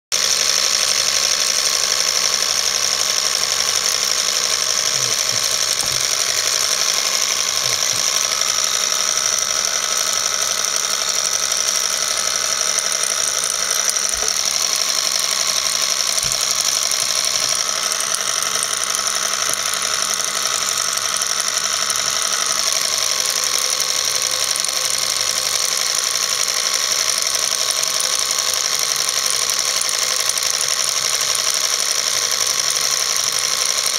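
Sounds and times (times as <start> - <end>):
film projector whirring: 0.1 - 33.9.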